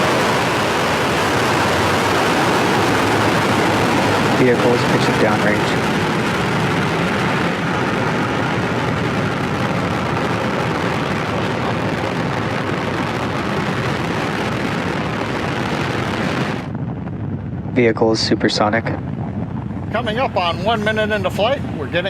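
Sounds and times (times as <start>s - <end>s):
rocket engines rumbling: 0.0s - 22.0s.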